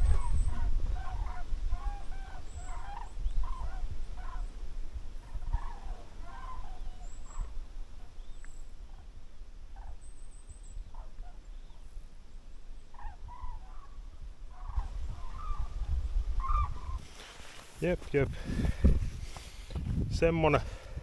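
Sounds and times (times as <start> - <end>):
wind rumble on microphone: 0.0 - 12.0, 12.6 - 17.2, 17.8 - 21.0
large birds calling: 0.0 - 18.8.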